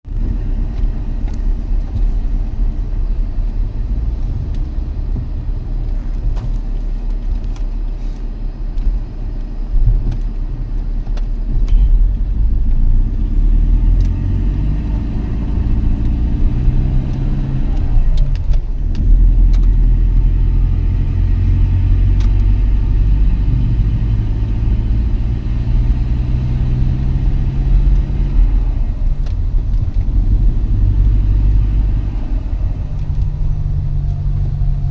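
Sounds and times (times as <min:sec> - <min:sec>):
car engine and road rumble: 0:00.0 - 0:34.9.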